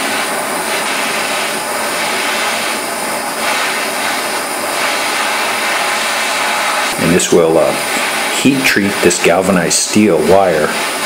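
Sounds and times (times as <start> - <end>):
hand torch hissing: 0.0 - 11.0.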